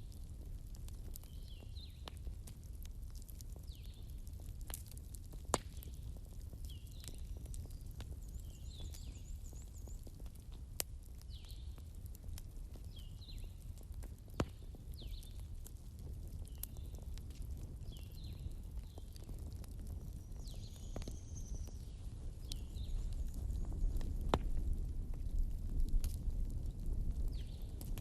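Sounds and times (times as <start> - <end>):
bonfire crackling and popping: 0.0 - 28.0
low rumble of flames: 0.0 - 28.0.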